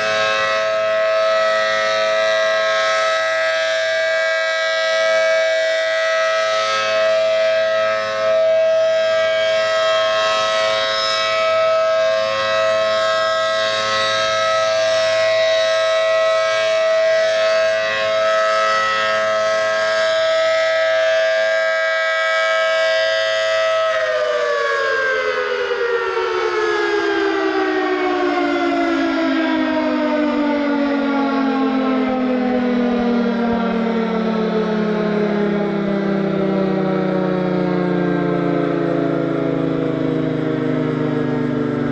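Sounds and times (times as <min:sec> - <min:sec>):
tornado siren two-tone chord: 0:00.0 - 0:41.9.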